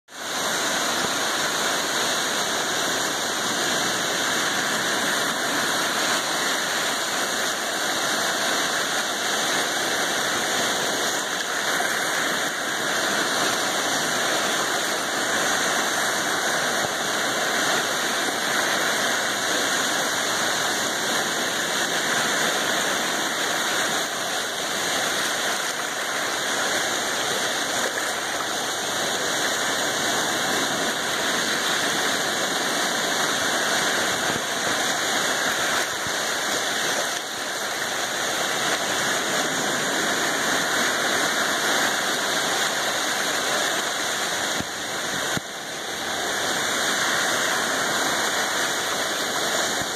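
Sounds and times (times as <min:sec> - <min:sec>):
small waves washing over sand: 0:00.1 - 0:49.9.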